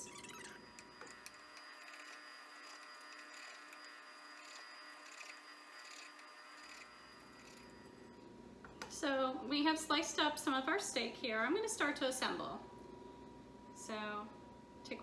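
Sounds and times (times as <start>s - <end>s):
faint electrical buzz: 0.0s - 15.0s.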